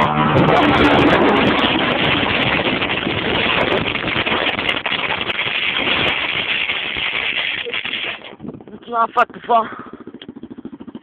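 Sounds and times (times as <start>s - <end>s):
wind on microphone: 0.0s - 9.7s
scooter engine crackling: 0.0s - 11.0s.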